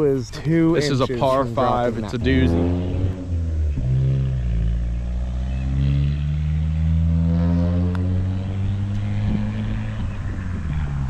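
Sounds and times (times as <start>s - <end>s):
low engine hum: 0.8s - 11.0s.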